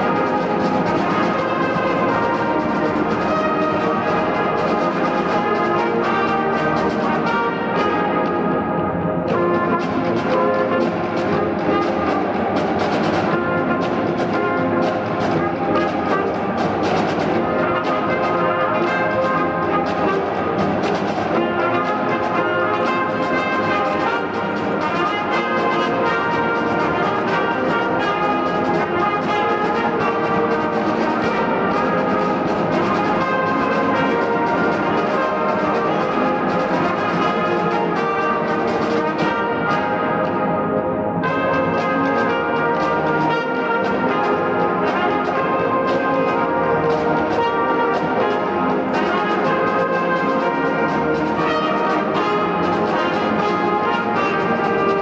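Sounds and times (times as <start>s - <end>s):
brass and reed band playing: 0.0s - 55.0s.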